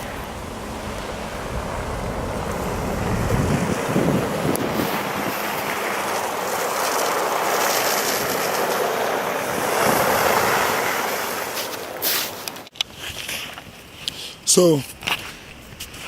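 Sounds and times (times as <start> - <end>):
tyres hissing through wet snow: 0.0 - 16.0.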